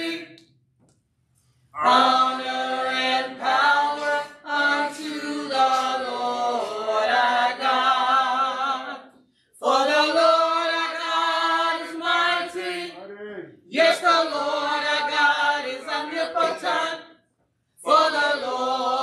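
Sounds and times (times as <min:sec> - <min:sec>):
choir singing slow gospel song: 0:00.0 - 0:00.4, 0:01.7 - 0:13.0, 0:13.7 - 0:17.1, 0:17.8 - 0:19.0.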